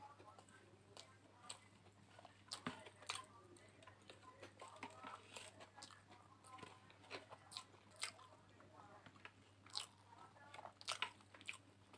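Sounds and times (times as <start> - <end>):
faint chewing: 0.0 - 11.9.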